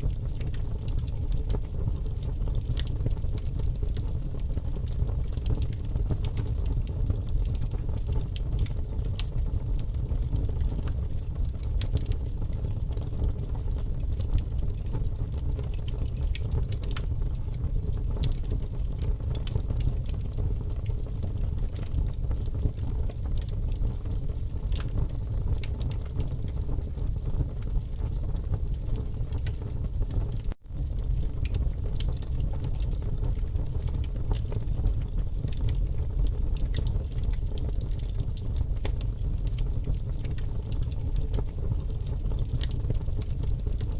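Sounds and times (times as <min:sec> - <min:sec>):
campfire crackling and popping: 0:00.0 - 0:43.9
low fire rumble: 0:00.0 - 0:43.9.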